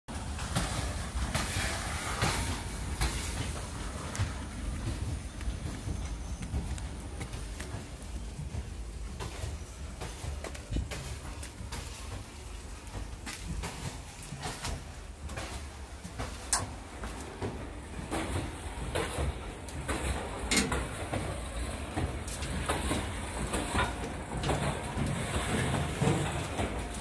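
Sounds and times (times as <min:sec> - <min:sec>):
footsteps on metal floor: 0:00.1 - 0:27.0
steady low rumble: 0:00.1 - 0:27.0.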